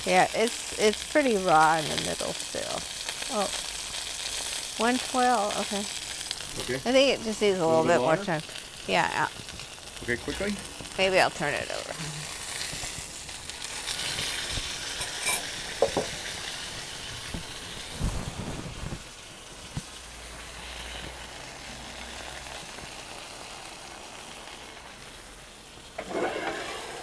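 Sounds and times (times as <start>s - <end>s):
steak sizzling in a skillet: 0.0s - 27.0s.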